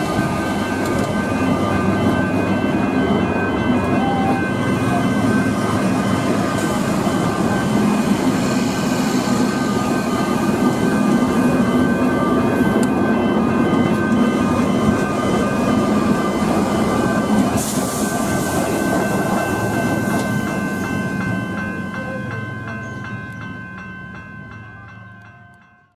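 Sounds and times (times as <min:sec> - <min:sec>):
train rumbling and clattering: 0:00.0 - 0:25.9
level crossing bells ringing: 0:00.0 - 0:26.0.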